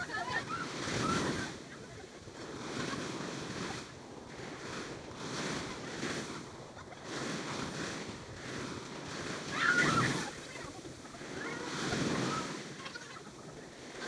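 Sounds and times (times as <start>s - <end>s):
ocean waves breaking on a beach: 0.0s - 14.0s.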